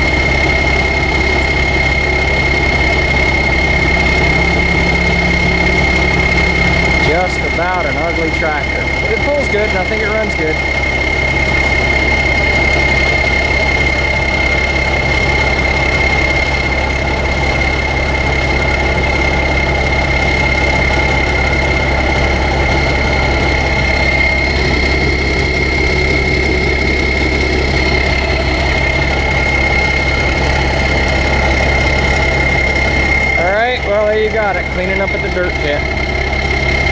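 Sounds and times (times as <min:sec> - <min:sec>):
high engine whine: 0:00.0 - 0:36.9
tractor diesel engine drone: 0:00.0 - 0:36.9.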